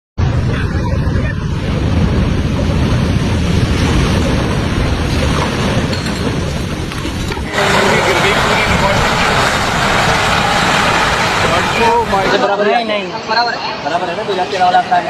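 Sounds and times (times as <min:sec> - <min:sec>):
floodwater rushing: 0:00.4 - 0:12.6.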